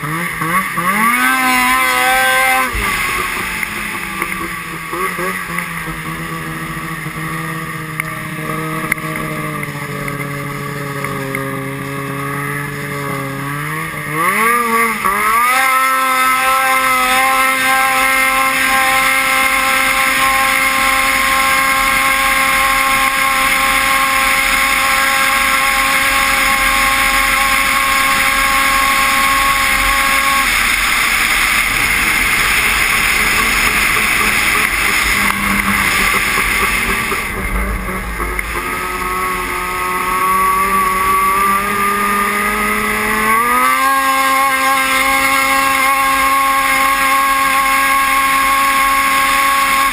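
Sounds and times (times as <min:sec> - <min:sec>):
vehicle engine revving: 0:00.0 - 0:49.9
vehicle engine running steadily: 0:00.0 - 0:49.9
rushing noise: 0:00.8 - 0:12.9, 0:17.2 - 0:47.3.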